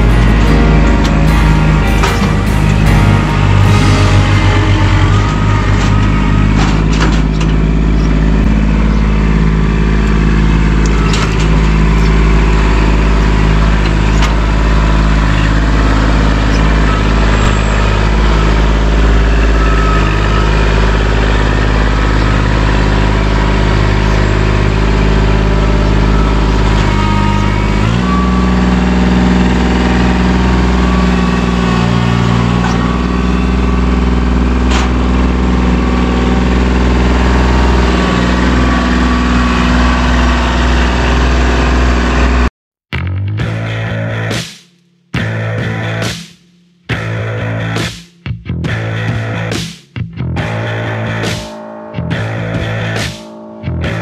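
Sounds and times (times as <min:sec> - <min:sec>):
tractor diesel engine running: 0:00.0 - 0:42.5, 0:43.1 - 0:54.0.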